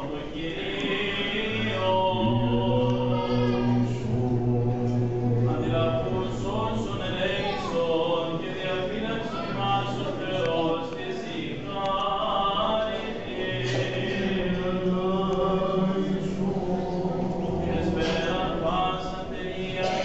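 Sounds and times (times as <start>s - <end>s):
voices chanting hymns: 0.0s - 20.0s.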